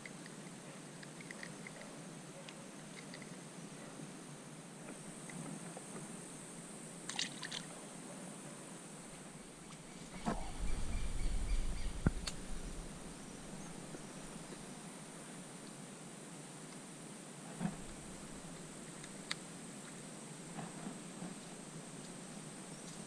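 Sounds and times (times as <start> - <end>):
high buzz of insects: 0.0 - 23.0.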